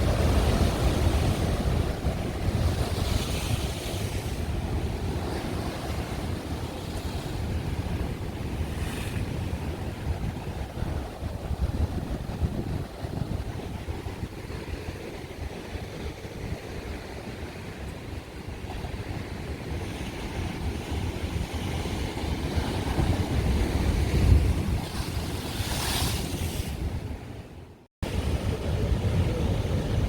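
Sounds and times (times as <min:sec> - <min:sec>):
wind buffeting microphone: 0:00.0 - 0:27.4, 0:28.0 - 0:30.0.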